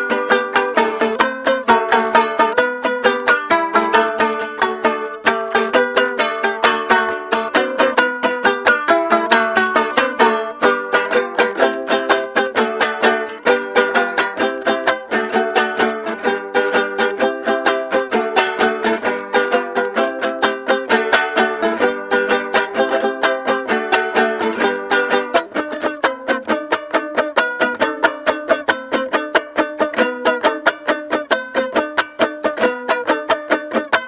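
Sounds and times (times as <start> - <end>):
small guitar strumming: 0.0 - 34.0.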